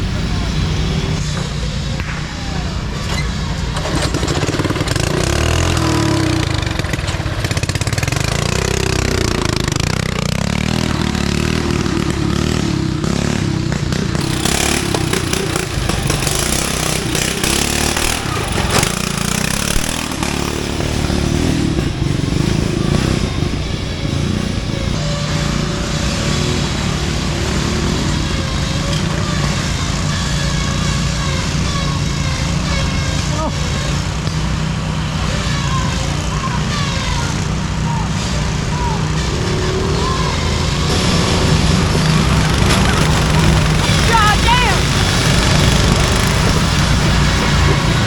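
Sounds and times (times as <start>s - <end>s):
mower engines revving: 0.0s - 48.0s.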